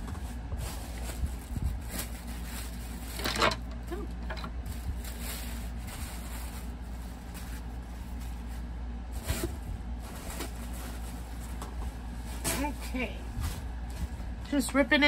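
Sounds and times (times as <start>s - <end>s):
tissue paper rustling: 0.0s - 3.3s, 4.6s - 14.1s
low steady hum: 0.0s - 15.0s.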